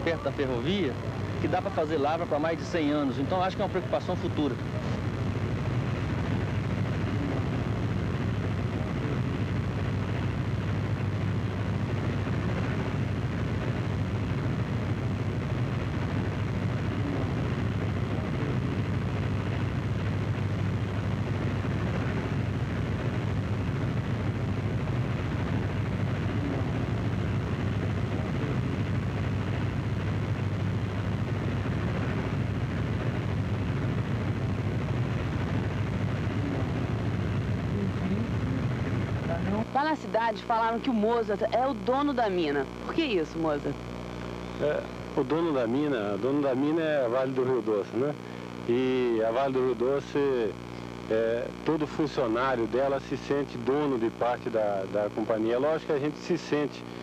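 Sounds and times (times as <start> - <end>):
low engine drone: 0.0 - 56.1.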